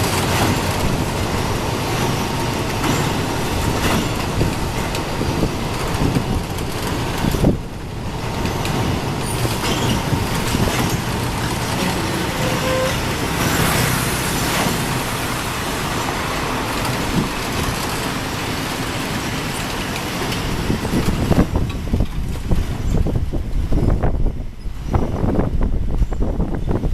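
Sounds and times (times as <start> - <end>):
train rumbling over bridge: 0.0 - 26.9.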